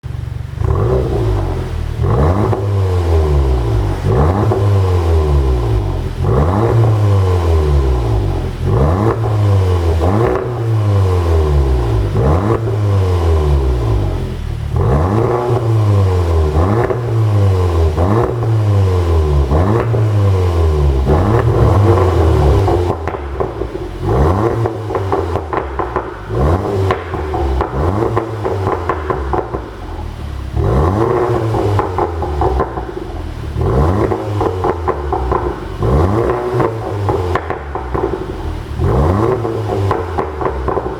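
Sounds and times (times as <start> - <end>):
car engine revving: 0.0 - 40.9
exhaust popping and crackling: 0.0 - 40.9.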